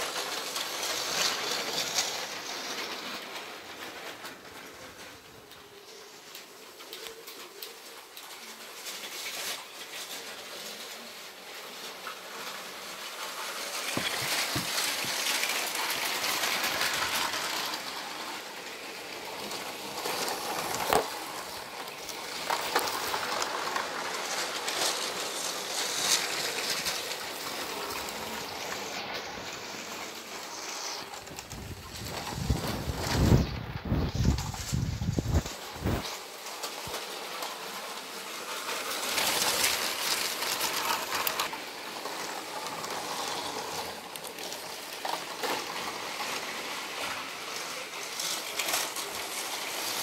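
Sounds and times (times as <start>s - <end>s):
toy trains whirring on track: 0.0s - 50.0s.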